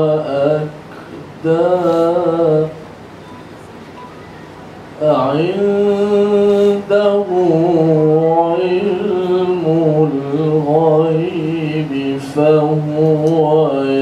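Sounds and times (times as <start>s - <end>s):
man chanting into a microphone: 0.0s - 2.8s, 5.0s - 14.0s.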